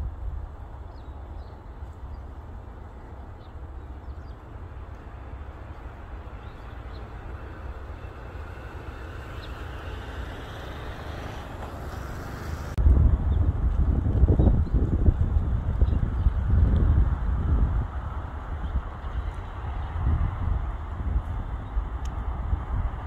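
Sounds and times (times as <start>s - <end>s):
wind rumble on microphone: 0.0s - 23.0s
passing vehicle: 3.6s - 23.0s.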